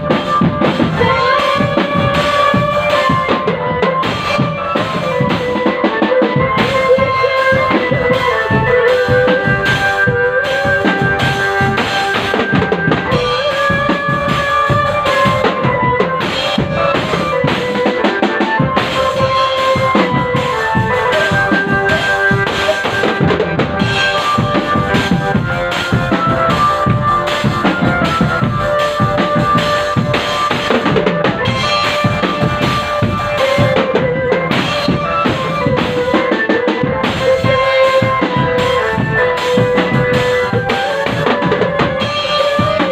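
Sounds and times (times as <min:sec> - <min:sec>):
melody of held notes: 0:00.0 - 0:42.9
snare and bass drums: 0:00.0 - 0:42.9.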